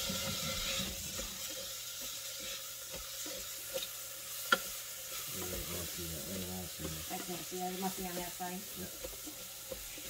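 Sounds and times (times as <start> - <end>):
rice and garlic sizzling in oil: 0.0 - 10.0.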